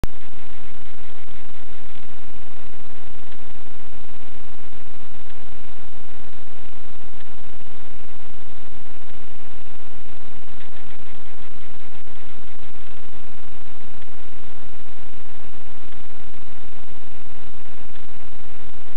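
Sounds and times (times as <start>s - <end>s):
faint buzz: 0.0s - 18.9s
static-like hiss: 0.0s - 18.9s.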